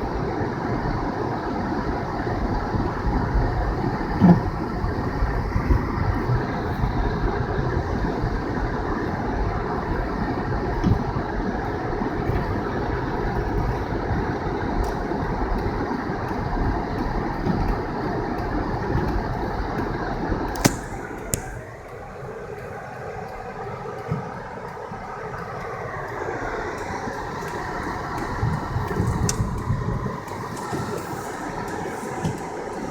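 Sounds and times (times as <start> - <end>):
car tyres and engine rumble: 0.0 - 32.9.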